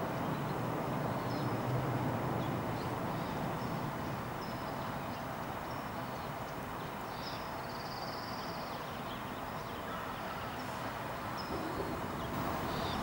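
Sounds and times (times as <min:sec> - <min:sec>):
outdoor background noise: 0:00.0 - 0:13.0
small birds chirping: 0:02.4 - 0:13.0.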